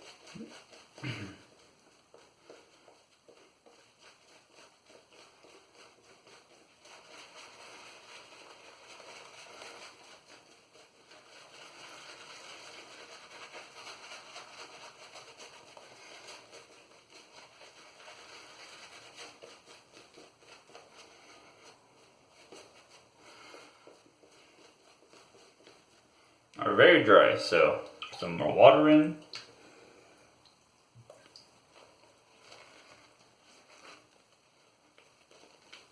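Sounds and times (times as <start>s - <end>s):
shaving brush swishing lather: 0.0s - 30.2s, 31.0s - 35.9s.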